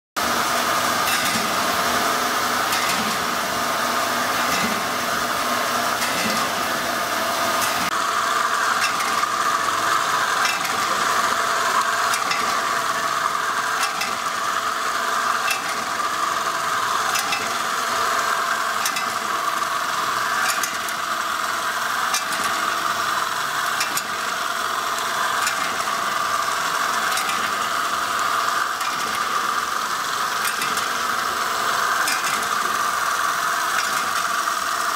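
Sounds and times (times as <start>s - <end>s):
machine humming: 0.2s - 34.9s
machine clicking: 0.9s - 3.4s, 4.0s - 6.8s, 7.5s - 34.9s.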